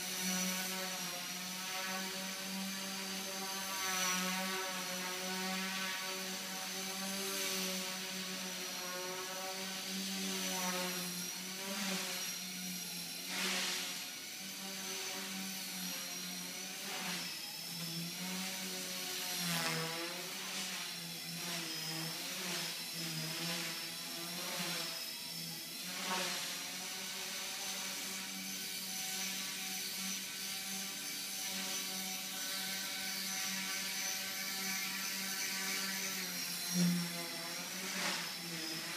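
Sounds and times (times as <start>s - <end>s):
high motor whine: 0.0s - 38.9s
model helicopter rotors buzzing: 0.0s - 38.9s.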